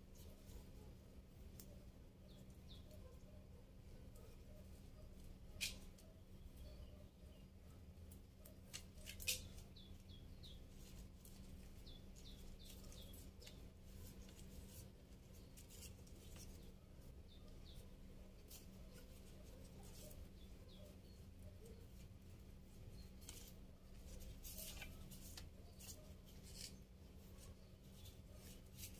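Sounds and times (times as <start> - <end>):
faint handling sounds: 0.0 - 28.9
small bird chirping: 1.5 - 28.9.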